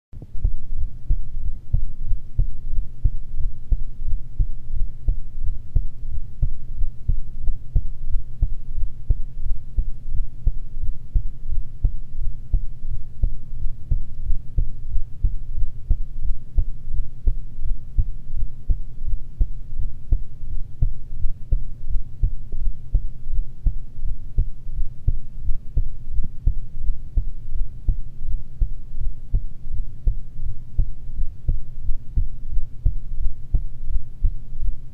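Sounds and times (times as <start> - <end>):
faint low hum: 0.2 - 34.9
heartbeat: 0.2 - 34.9.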